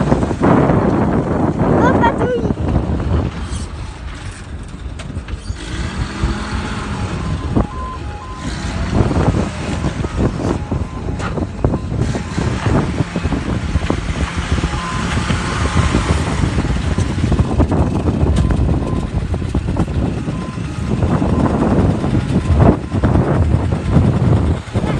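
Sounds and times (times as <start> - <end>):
jeep engine running: 0.0 - 24.9.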